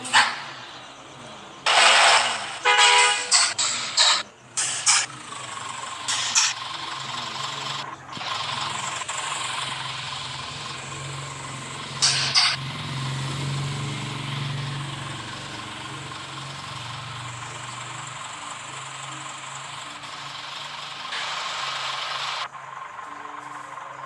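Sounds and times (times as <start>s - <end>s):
bursts of hissing air: 0.0s - 22.5s
machine hum with hiss: 0.0s - 24.0s.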